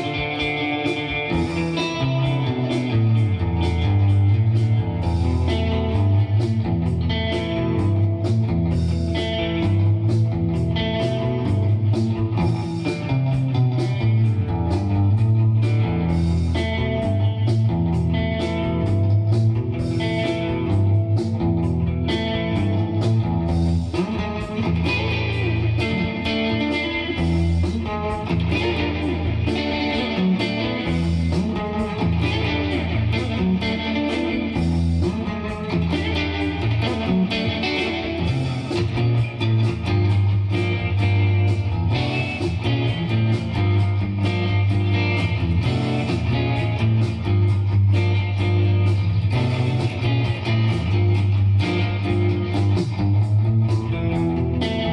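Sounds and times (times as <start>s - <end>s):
backing track with beat and bass: 0.0s - 54.9s
electric guitar melody: 0.0s - 54.9s.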